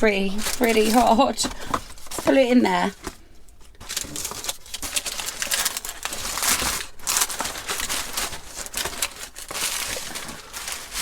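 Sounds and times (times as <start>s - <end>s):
food packaging crinkling: 0.0s - 11.0s.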